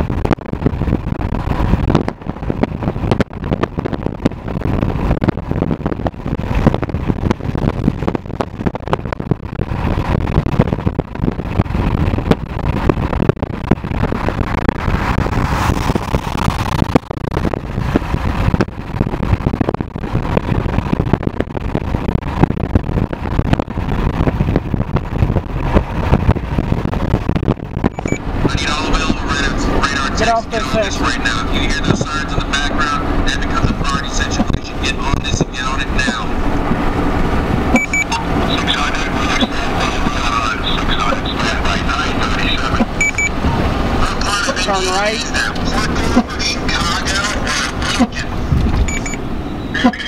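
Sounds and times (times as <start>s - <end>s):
wind buffeting microphone: 0.0s - 49.8s
car driving at speed: 0.0s - 50.0s.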